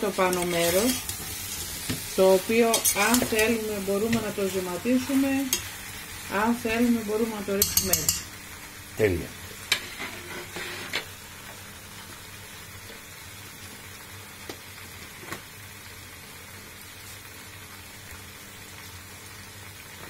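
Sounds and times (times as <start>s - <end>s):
leeks sizzling in hot oil: 0.0s - 20.0s.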